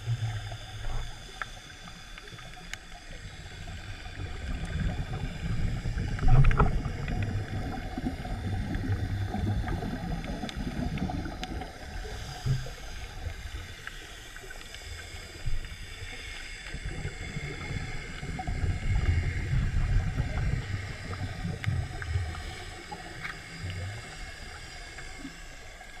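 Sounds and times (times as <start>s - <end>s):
underwater rumble of moving water: 0.0s - 26.0s.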